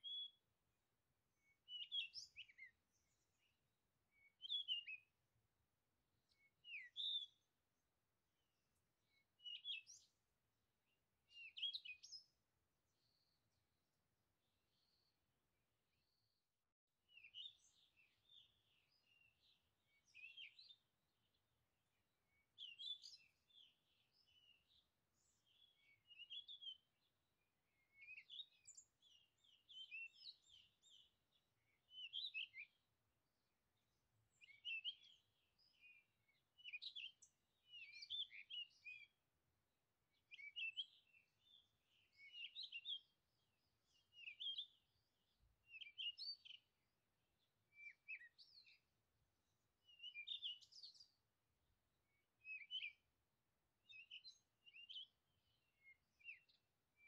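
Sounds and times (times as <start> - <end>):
songbird chirping: 0.0 - 57.0.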